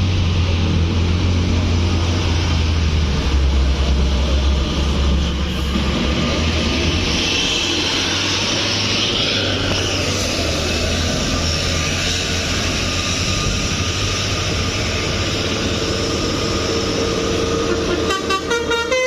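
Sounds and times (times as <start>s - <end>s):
heavy vehicle engine rumble: 0.0s - 19.0s
road and air noise: 0.0s - 19.0s.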